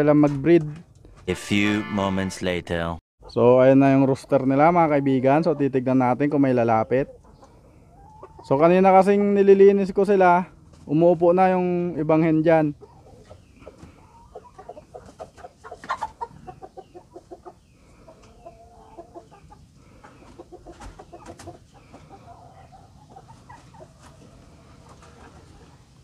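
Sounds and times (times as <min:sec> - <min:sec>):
chickens clucking: 0:03.2 - 0:26.0.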